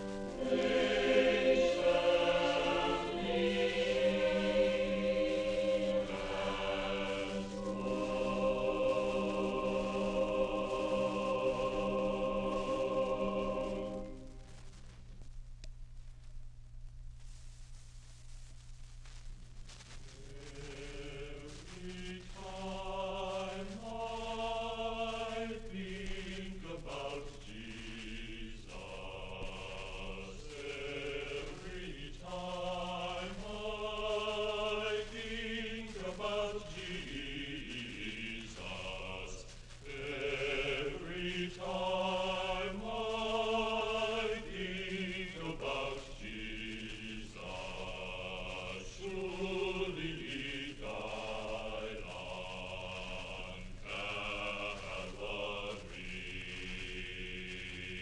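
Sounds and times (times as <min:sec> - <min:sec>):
choir singing long notes: 0:00.0 - 0:14.6, 0:20.3 - 0:58.0.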